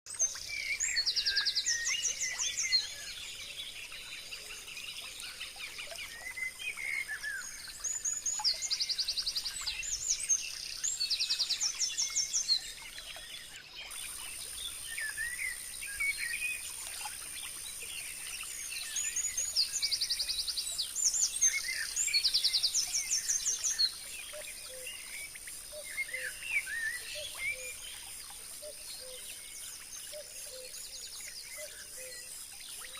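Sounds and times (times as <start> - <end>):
birds singing trilled notes: 0.1 - 32.9.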